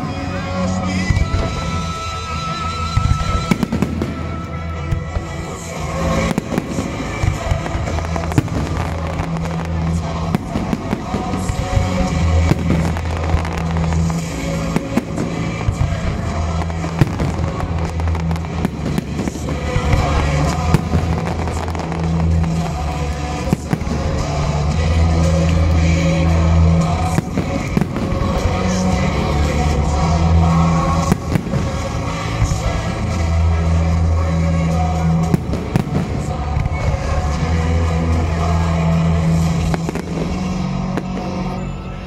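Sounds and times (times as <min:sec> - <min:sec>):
fireworks bangs and crackling: 0:00.0 - 0:42.0
music playing: 0:00.0 - 0:42.0.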